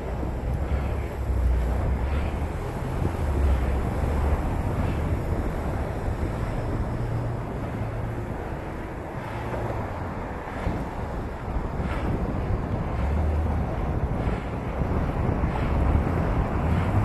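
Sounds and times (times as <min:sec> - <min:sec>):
street traffic hiss: 0:00.0 - 0:17.0
wind rumbling on microphone: 0:00.0 - 0:17.0.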